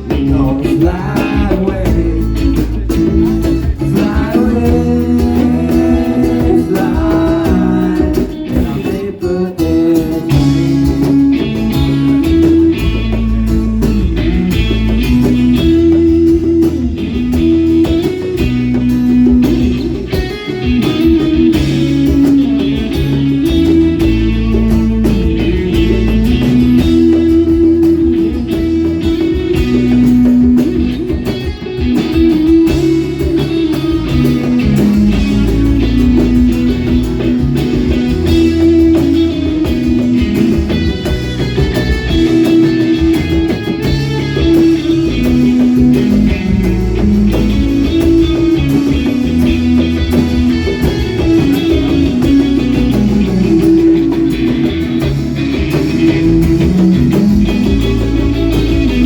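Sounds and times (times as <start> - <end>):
guitar: 0.0 - 59.0
low bass line: 0.0 - 59.0.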